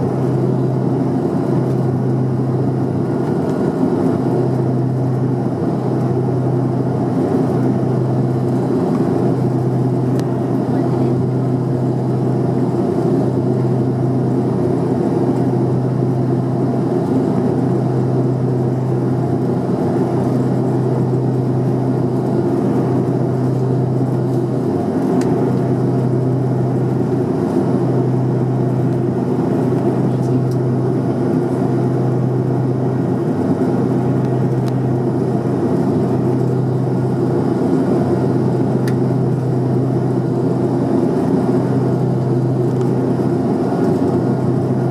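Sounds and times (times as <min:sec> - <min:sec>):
engine roar: 0:00.0 - 0:44.9
propeller drone: 0:00.0 - 0:44.9.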